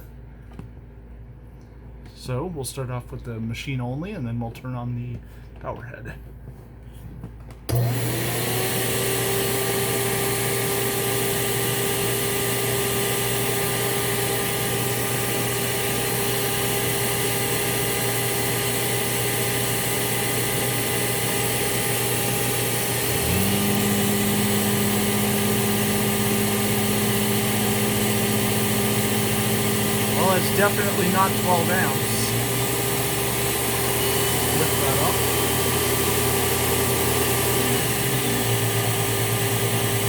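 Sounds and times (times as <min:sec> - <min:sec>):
power head motor hum: 0:07.7 - 0:40.0
vacuum motor whine: 0:07.7 - 0:40.0.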